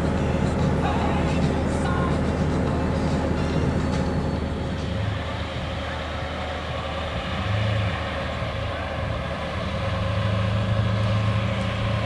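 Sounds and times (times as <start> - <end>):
noisy outdoor background: 0.0 - 12.0
race vehicle engines drone: 0.0 - 12.0.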